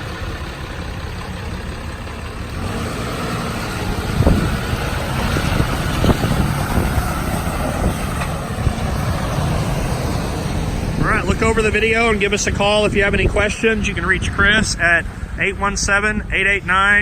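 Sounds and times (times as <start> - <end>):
truck engine pulling away: 0.0 - 15.6.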